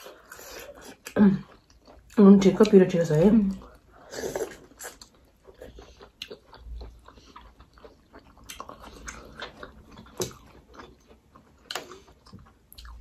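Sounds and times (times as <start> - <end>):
people chewing with wet smacks: 0.0 - 13.0.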